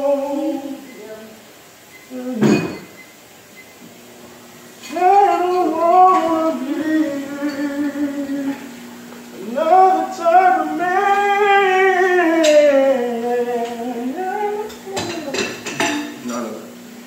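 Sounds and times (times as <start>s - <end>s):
person singing r and b: 0.0s - 1.5s, 2.1s - 2.7s, 4.9s - 16.4s.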